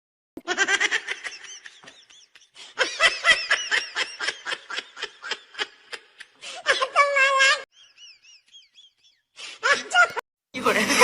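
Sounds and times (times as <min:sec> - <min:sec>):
person laughing: 0:00.4 - 0:11.0.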